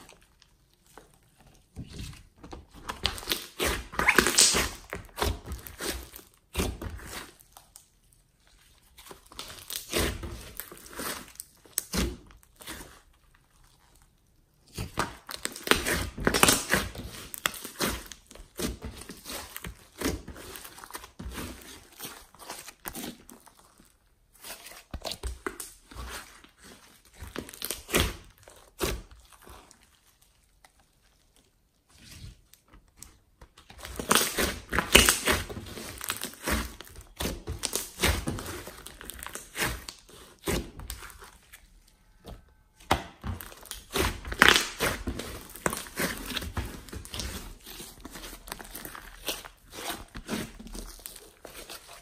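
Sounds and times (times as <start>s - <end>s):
slime crackling and popping: 2.7s - 8.0s, 8.6s - 52.0s.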